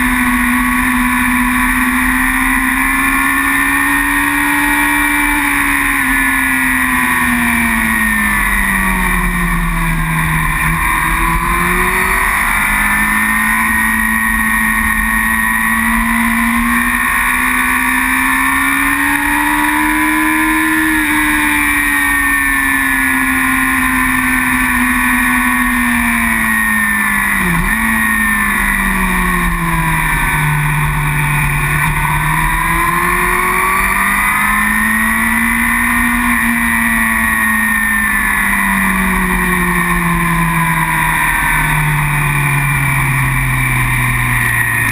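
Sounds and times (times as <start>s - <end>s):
superbike engine at speed: 0.0s - 44.9s.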